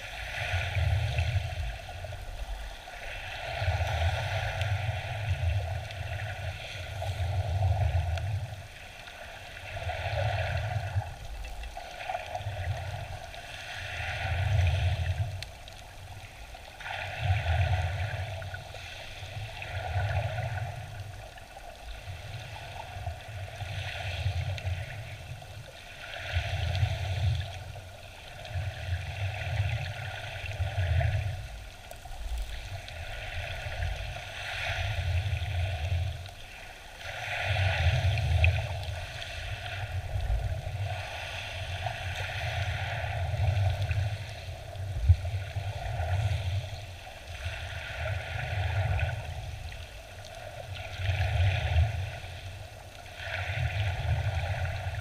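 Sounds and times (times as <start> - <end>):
muffled underwater surging: 0.0 - 55.0.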